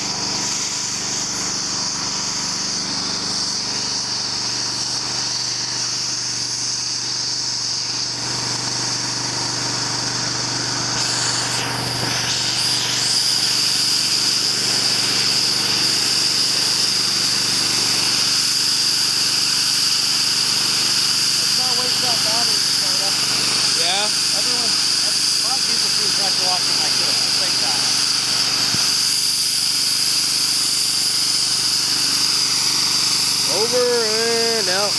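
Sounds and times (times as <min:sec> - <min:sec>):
pressure washer jet hissing: 0:00.0 - 0:34.9
pressure washer machine hum: 0:00.0 - 0:34.9.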